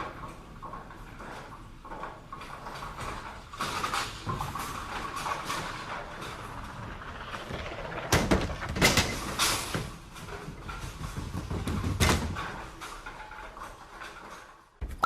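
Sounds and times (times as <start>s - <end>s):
bowling ball rolling: 0.1s - 12.8s.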